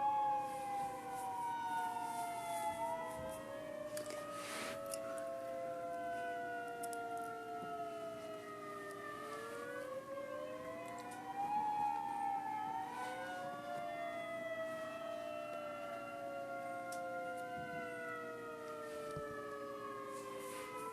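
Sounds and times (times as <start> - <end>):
tornado sirens wailing: 0.0 - 20.9.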